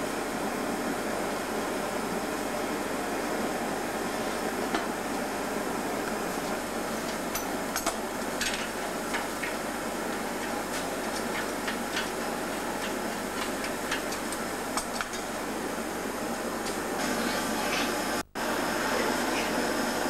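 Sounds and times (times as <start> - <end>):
furnace roaring: 0.0 - 20.0.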